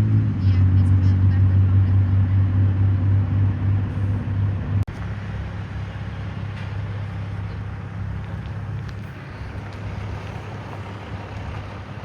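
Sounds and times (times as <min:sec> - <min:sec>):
quiet steady rumble: 0:00.0 - 0:12.0
vehicle engine humming: 0:00.0 - 0:12.0.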